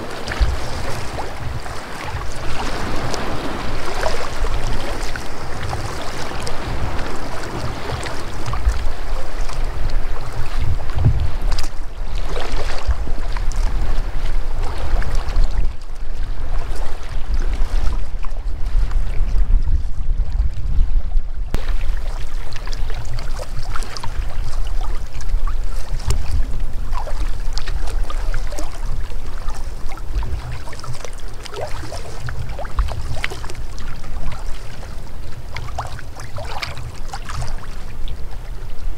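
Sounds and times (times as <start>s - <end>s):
water splashing against hull: 0.0s - 38.9s
wind buffeting microphone: 0.0s - 38.9s.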